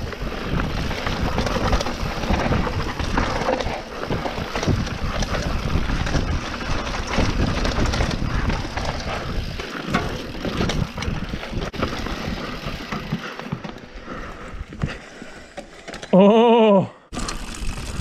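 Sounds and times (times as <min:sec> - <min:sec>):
tyres rolling over dirt and rocks: 0:00.0 - 0:16.1.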